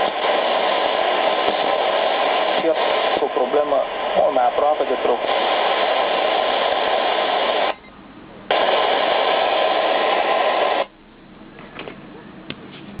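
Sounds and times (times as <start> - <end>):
radio static hiss: 0.0 - 11.8.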